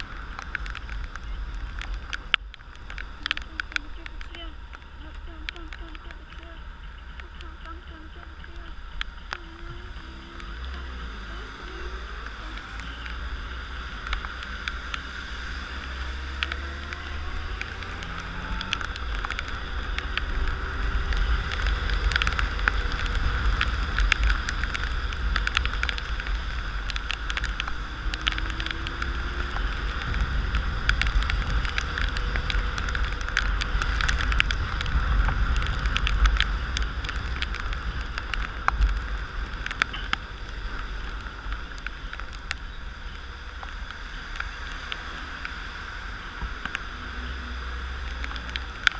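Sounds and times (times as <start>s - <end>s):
raindrops ticking: 0.0s - 48.9s
wind rumble on microphone: 0.0s - 48.9s.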